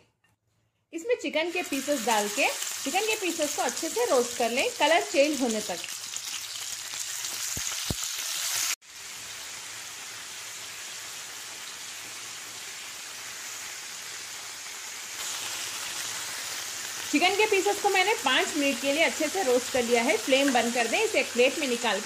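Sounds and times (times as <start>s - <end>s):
chicken sizzling in hot oil: 1.4s - 22.0s.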